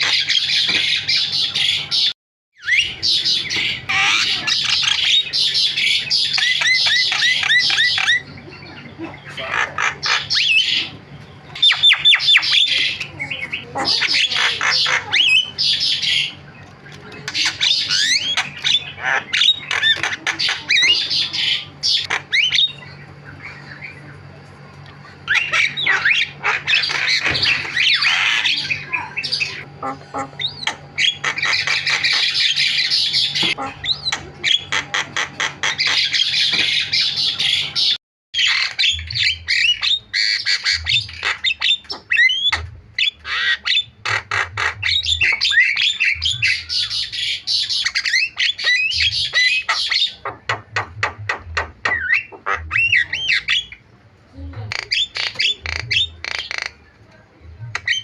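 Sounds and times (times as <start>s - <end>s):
bird chattering song: 0.0s - 56.9s, 57.5s - 58.0s.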